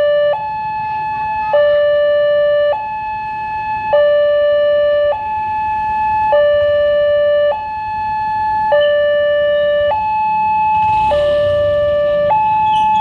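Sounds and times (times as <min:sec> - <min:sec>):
two-tone level-crossing siren: 0:00.0 - 0:13.0.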